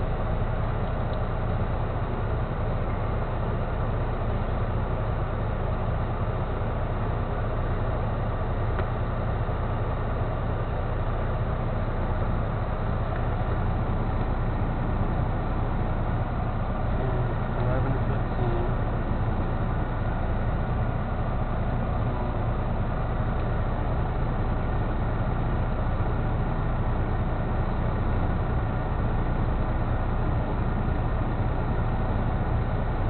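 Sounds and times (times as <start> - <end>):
diesel truck engine running: 0.0 - 33.0.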